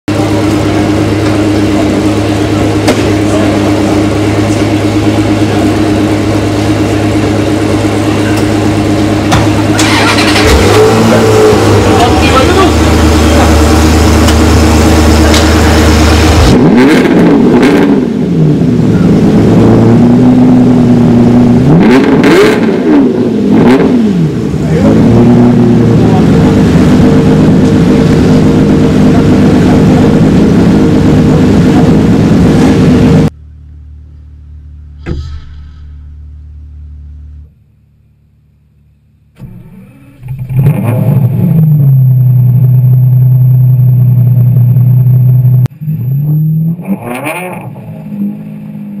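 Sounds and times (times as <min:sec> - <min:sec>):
car engine idling and revving: 0:00.1 - 0:49.0.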